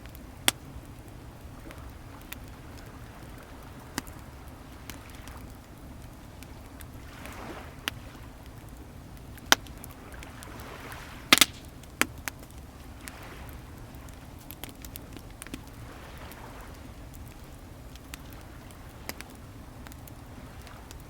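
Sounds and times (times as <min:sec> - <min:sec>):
bonfire crackling and popping: 0:00.0 - 0:21.0
waves washing on shore: 0:00.0 - 0:21.0.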